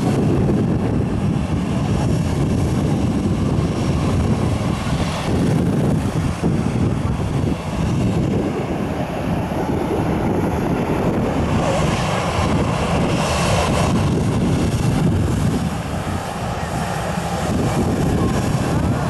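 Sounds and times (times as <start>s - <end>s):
jet engines running: 0.0s - 19.0s
wind buffeting microphone: 0.0s - 19.0s.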